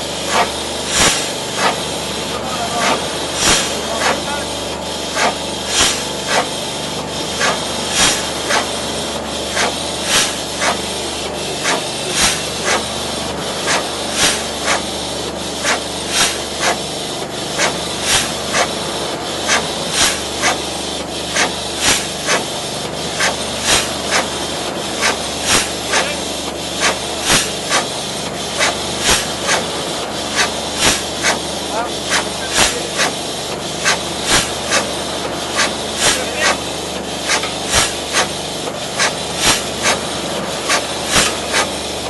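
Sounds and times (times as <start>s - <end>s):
engine hissing and clicking: 0.0s - 42.0s.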